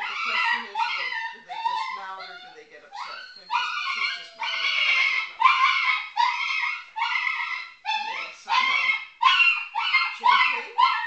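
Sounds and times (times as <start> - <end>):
puppy yelping and whining: 0.0 - 11.0.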